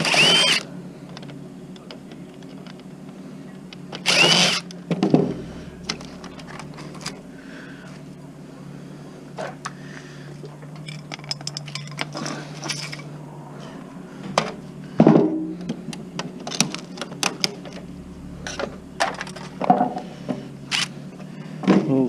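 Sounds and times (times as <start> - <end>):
low hum: 0.7 - 11.3, 12.4 - 22.0.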